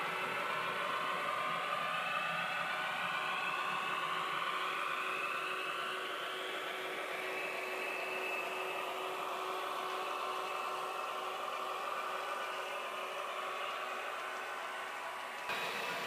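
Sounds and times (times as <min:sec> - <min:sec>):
model train whirring hum: 0:00.0 - 0:16.0.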